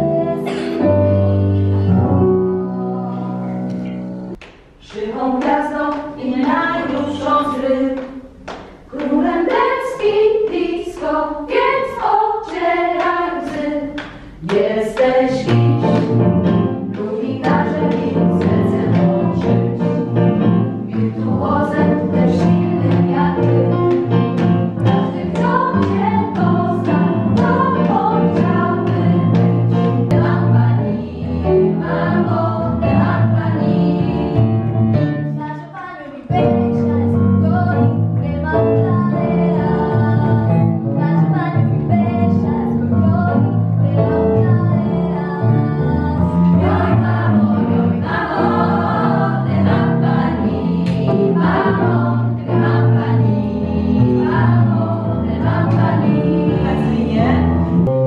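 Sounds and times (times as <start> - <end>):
women singing together: 0.0 - 1.9, 4.8 - 34.6, 35.4 - 57.9.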